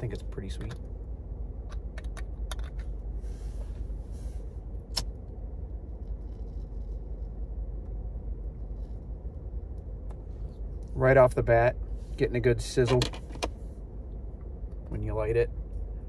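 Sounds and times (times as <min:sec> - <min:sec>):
low rumble inside a car: 0:00.0 - 0:16.0.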